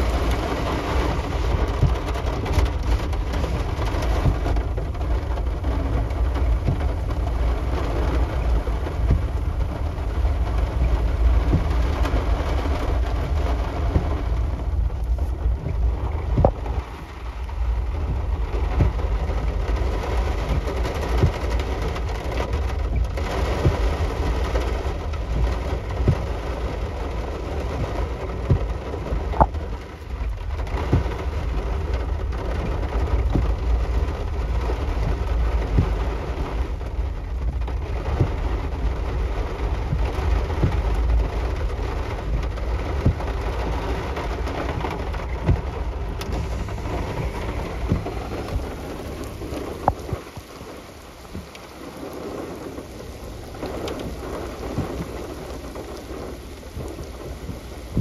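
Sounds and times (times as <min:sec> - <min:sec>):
heavy rain: 0:00.0 - 0:58.0
strong low rumble: 0:00.0 - 0:58.0.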